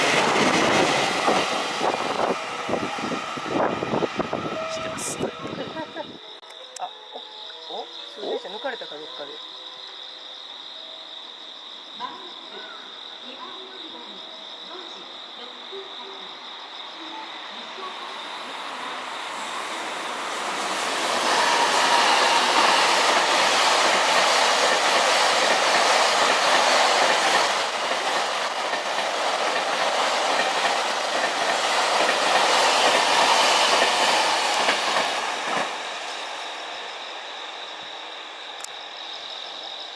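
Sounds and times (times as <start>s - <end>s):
freight train passing: 0.0s - 6.4s, 13.4s - 39.9s.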